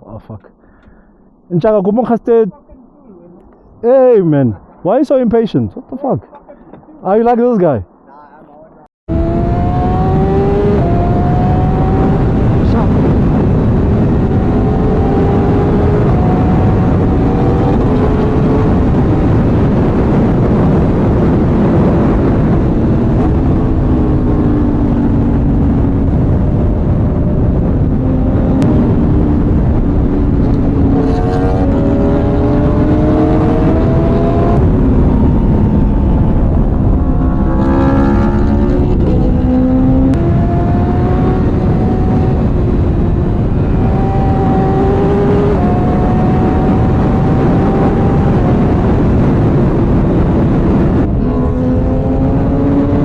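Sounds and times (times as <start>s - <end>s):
motorcycle engine accelerating: 9.1s - 53.0s
wind rush on microphone: 9.1s - 53.0s.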